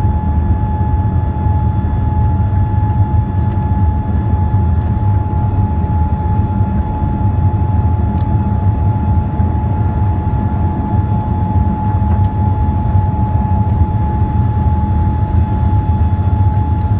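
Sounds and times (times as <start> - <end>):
airliner cabin engine rumble: 0.0 - 16.9.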